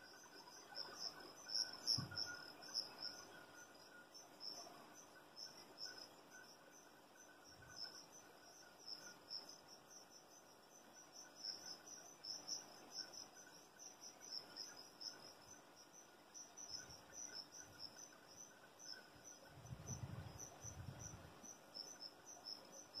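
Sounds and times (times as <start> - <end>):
faint crickets chirping: 0.0 - 23.0.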